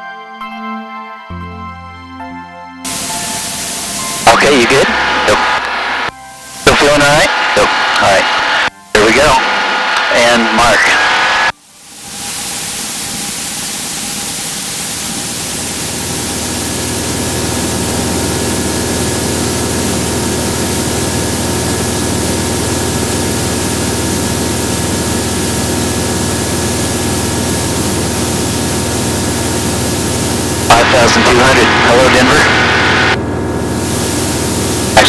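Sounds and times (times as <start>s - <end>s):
aircraft engine droning: 2.9s - 35.0s.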